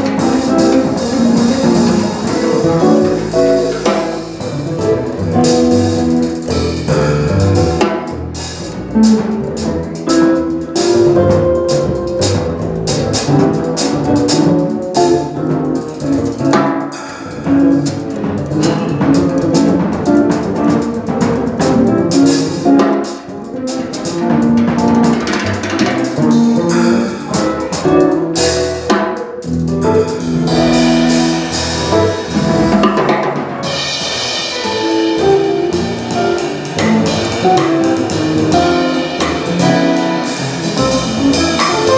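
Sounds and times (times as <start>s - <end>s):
drum kit with snare and cymbals: 0.0s - 41.9s
guitar: 0.0s - 41.9s
plucked upright bass: 0.0s - 41.9s.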